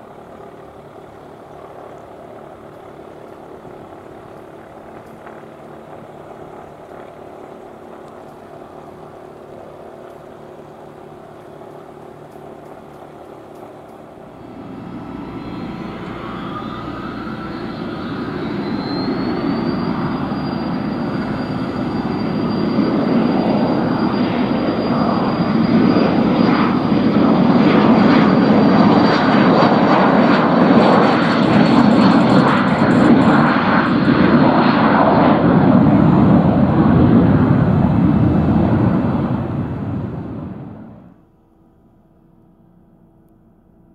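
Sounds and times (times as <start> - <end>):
turboprop engine spooling up: 0.0 - 41.2
piston aircraft engine idling: 0.0 - 43.9.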